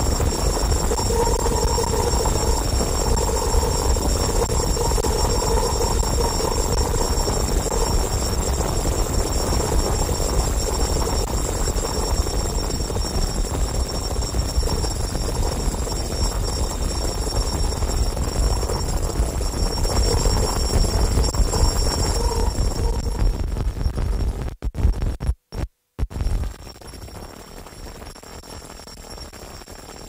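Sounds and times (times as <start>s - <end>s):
high whining tones: 0.0s - 24.5s
low hum: 0.0s - 25.2s
loud electronic feedback noise: 0.0s - 30.0s.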